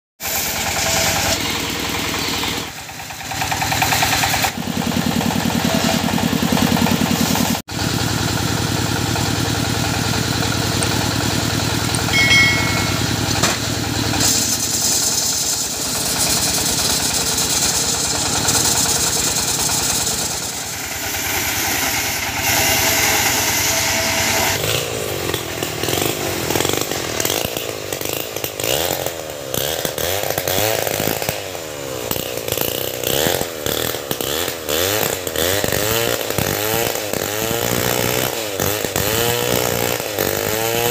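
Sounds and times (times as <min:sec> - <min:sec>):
chainsaw revving: 0:00.2 - 0:40.9
circular saw cutting timber: 0:00.2 - 0:40.9.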